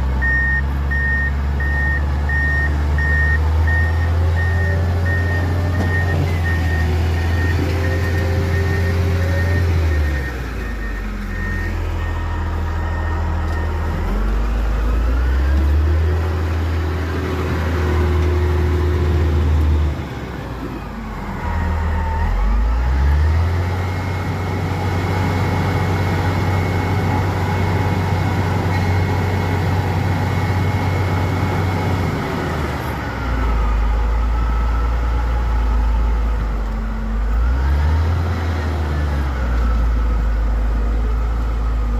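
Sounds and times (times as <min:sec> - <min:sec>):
engine revving: 0:01.6 - 0:36.0, 0:37.2 - 0:41.9.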